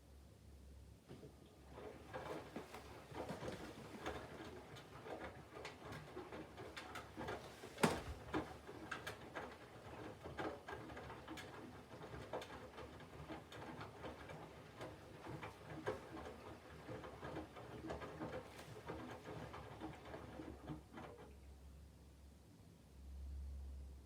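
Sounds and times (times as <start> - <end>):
washing machine hum: 0.9 - 21.8.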